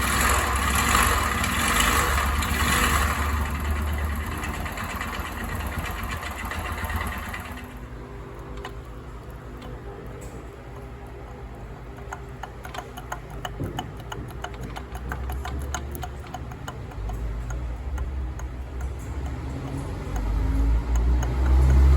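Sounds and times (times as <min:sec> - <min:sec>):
motorcycle engine ticking: 0:00.0 - 0:08.7, 0:11.8 - 0:21.9.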